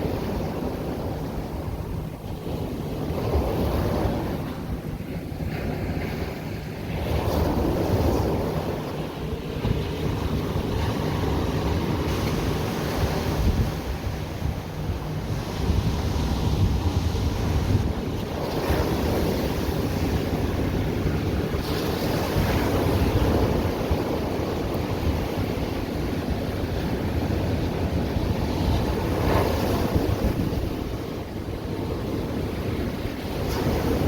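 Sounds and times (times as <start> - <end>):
ocean surf on beach: 0.0 - 34.0
wave splashes: 0.0 - 34.0
wind on microphone: 0.0 - 34.0.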